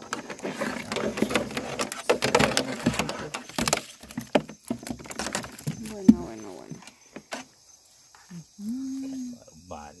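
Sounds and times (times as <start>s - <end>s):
rustling: 0.0s - 9.3s.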